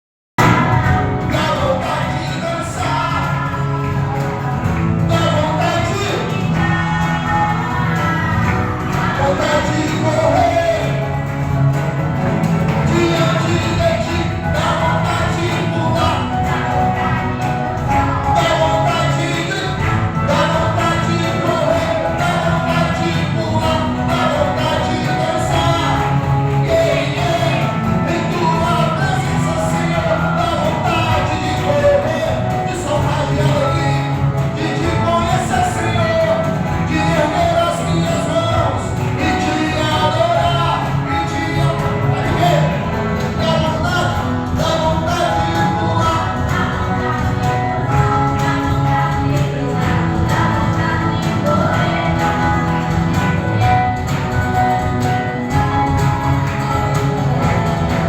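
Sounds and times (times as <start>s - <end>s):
person singing: 0.4s - 11.8s, 12.5s - 58.0s
drums: 0.4s - 58.0s
steady bass line: 0.4s - 58.0s
worship band playing: 0.4s - 58.0s.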